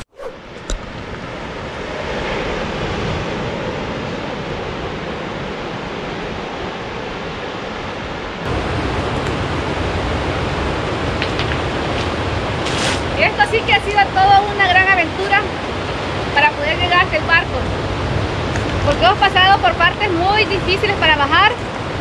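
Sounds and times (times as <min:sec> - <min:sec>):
ocean surf rushing: 0:00.0 - 0:22.0
wind on microphone: 0:00.0 - 0:22.0.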